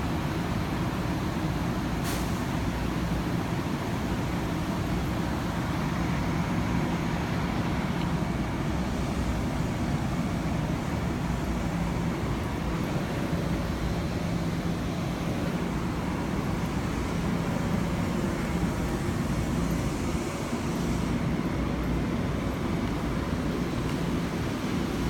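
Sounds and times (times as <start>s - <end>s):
electric train rumble: 0.0s - 25.0s.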